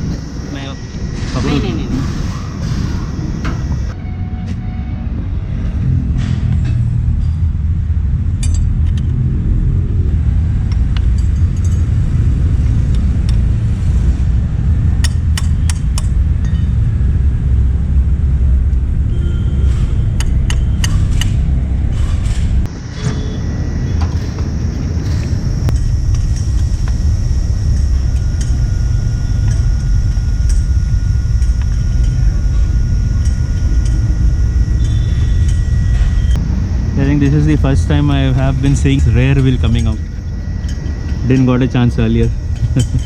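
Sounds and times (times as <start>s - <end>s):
steady low rumble: 0.0s - 4.0s, 5.0s - 43.0s.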